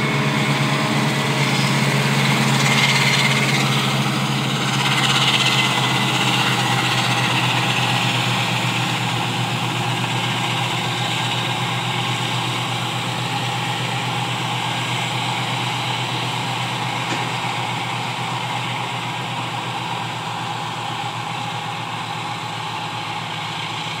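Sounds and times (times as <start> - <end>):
cutterhead and blower rushing: 0.0 - 23.9
harvester engine drone: 0.0 - 24.0.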